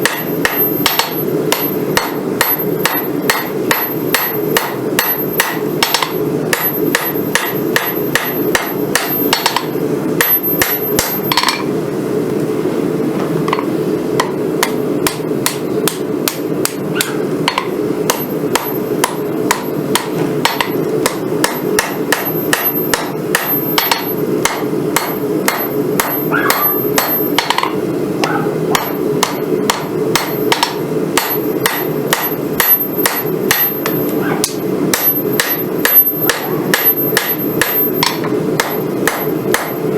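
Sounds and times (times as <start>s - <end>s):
hammer striking metal on anvil: 0.0s - 11.7s, 13.5s - 39.9s.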